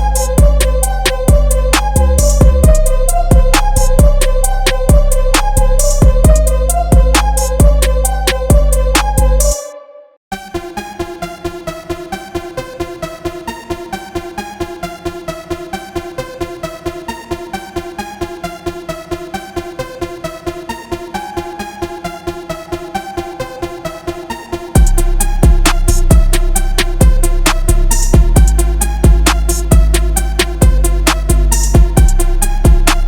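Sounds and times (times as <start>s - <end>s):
pulsing electronic synth notes: 0.0s - 33.0s.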